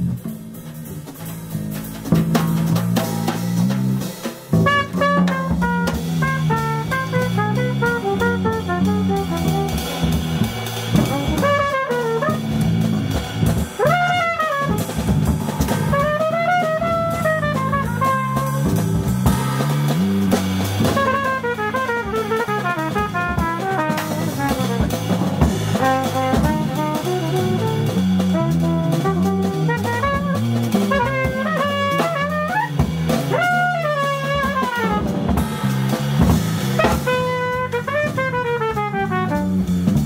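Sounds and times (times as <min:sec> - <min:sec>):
cornet melody: 0:00.0 - 0:35.3, 0:36.7 - 0:40.0
bass line: 0:00.0 - 0:40.0
drum kit with cymbals: 0:00.0 - 0:40.0.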